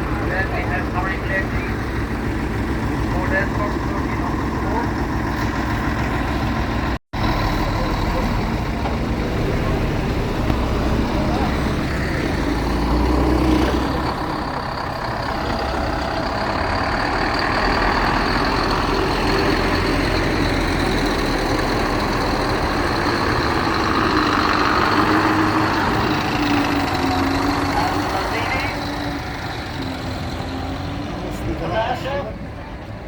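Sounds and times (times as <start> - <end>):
diesel lorry engines passing: 0.0 - 33.0.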